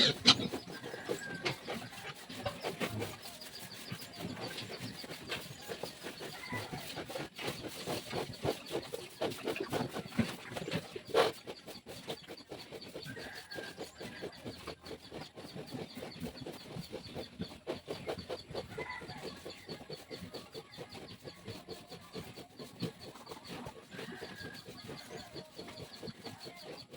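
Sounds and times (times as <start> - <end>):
farm animals calling: 0.0 - 26.9.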